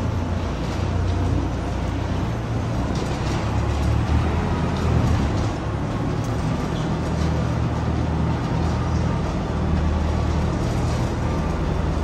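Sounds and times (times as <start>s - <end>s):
tractor and feed mixer droning: 0.0s - 12.0s.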